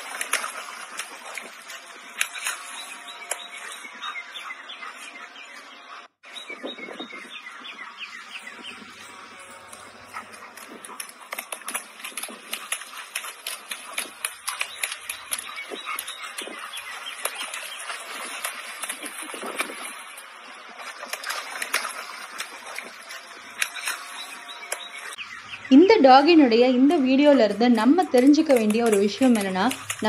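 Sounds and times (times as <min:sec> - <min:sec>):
dog paws splashing in puddle: 0:00.0 - 0:25.3, 0:26.0 - 0:30.0
birds chirping: 0:00.0 - 0:30.0.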